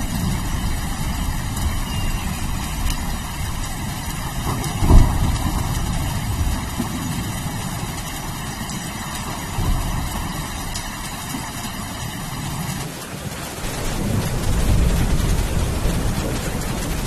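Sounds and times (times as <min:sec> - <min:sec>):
low rumble of thunder: 0:00.0 - 0:13.0, 0:13.6 - 0:17.0
steady rain: 0:00.0 - 0:17.0.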